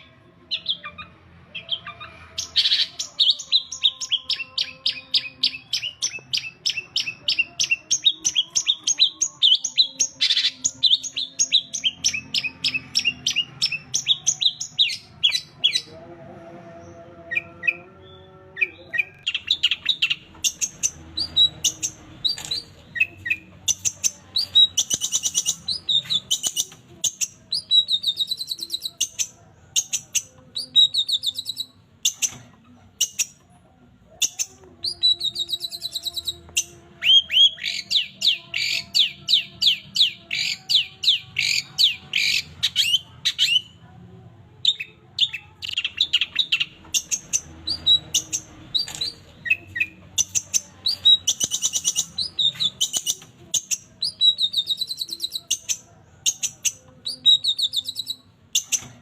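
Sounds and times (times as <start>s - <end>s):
bird singing high chirping trills: 0.0s - 15.9s, 17.2s - 33.4s, 34.1s - 43.8s, 44.6s - 58.9s.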